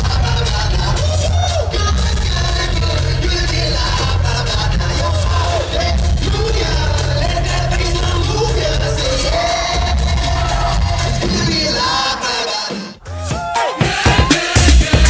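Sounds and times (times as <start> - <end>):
man singing: 0.0 - 13.0, 13.6 - 15.0
drums: 0.0 - 15.0
heavy bass: 0.0 - 15.0.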